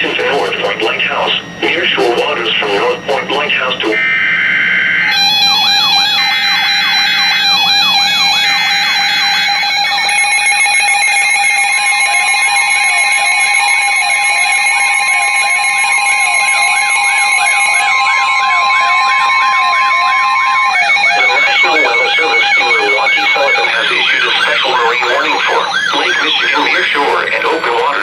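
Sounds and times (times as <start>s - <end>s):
on-off alarm beeping: 0.0s - 28.0s
steady alarm tone: 0.0s - 28.0s
whooping siren alarm: 0.0s - 28.0s
slow sweeping siren: 0.8s - 28.0s.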